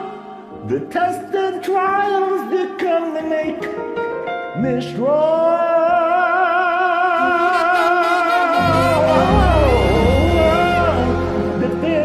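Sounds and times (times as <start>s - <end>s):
karaoke backing track: 0.0s - 12.0s
man singing gospel song: 0.0s - 12.0s.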